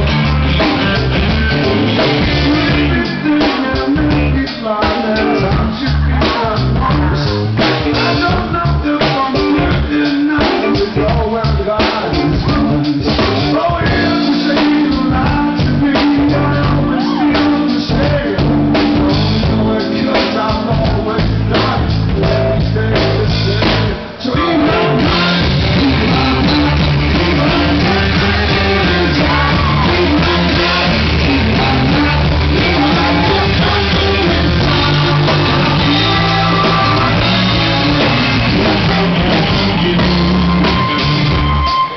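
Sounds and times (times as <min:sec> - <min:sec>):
bass guitar: 0:00.0 - 0:41.9
drums: 0:00.0 - 0:41.9
electric guitar: 0:00.0 - 0:41.9
man singing: 0:00.0 - 0:41.9.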